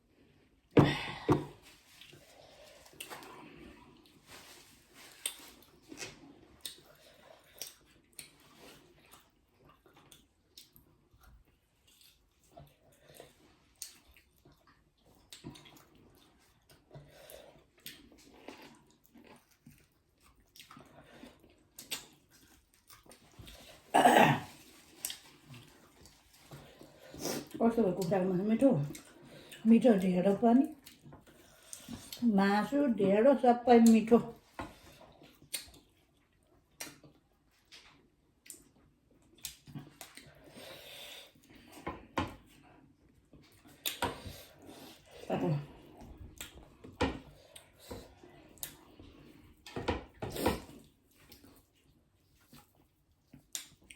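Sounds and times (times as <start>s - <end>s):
soft chewing: 1.5s - 32.3s, 33.8s - 53.9s.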